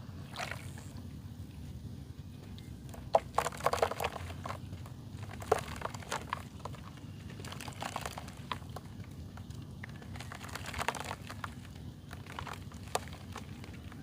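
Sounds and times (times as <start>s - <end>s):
low hum: 0.0s - 14.0s
dry mud crunching: 0.2s - 1.0s, 2.3s - 14.0s.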